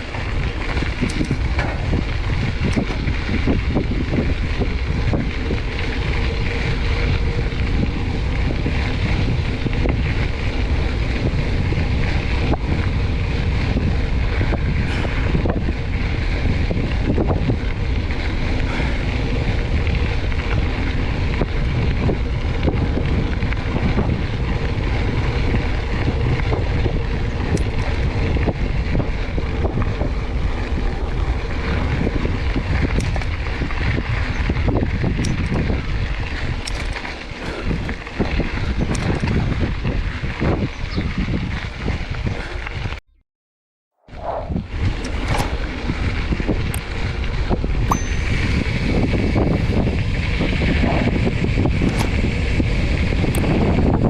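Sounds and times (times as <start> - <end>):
bike rattling over bumps: 0.0 - 43.0, 44.0 - 54.0
bike tyres rolling over ground: 0.0 - 43.0, 44.1 - 54.0
wind buffeting microphone: 0.0 - 43.0, 44.0 - 54.0.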